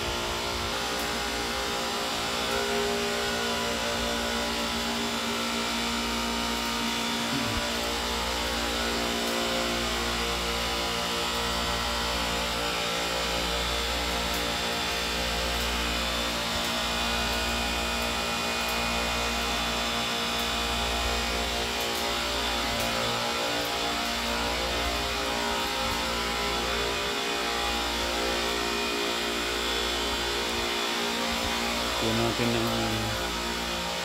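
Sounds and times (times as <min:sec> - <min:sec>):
refrigeration compressors humming: 0:00.0 - 0:34.0.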